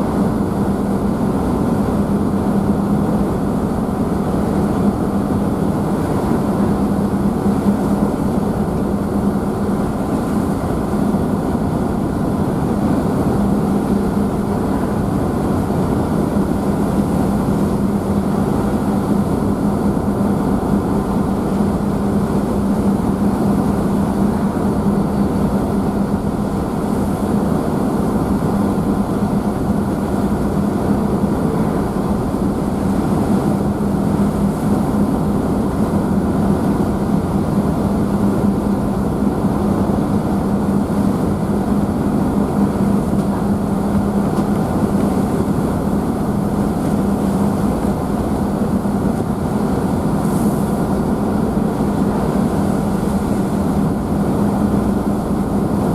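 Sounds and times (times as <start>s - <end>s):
ship engines humming: 0.0s - 55.9s
water churning in wake: 0.0s - 55.9s.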